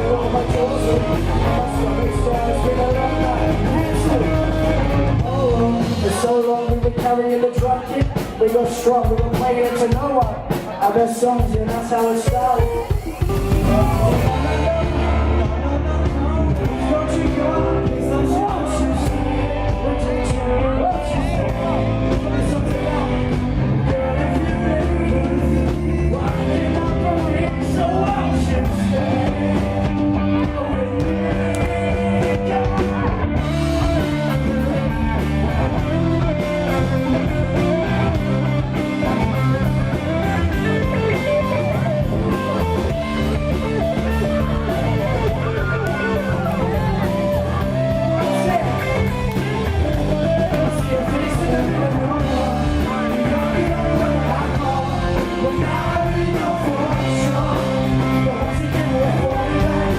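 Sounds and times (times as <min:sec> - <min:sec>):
live rock band with singing: 0:00.0 - 0:59.9.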